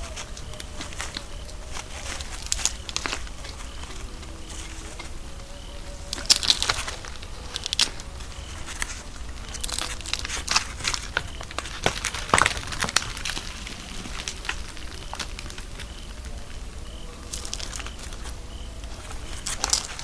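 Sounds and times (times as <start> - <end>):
hedgehog crunching dry scraps: 0.0 - 20.0.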